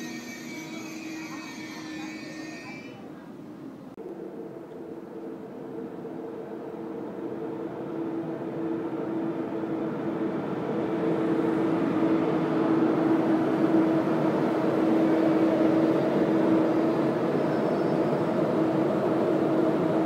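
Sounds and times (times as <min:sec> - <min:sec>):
electric hum of train: 0:00.0 - 0:20.0
rumble of moving train: 0:00.0 - 0:20.0.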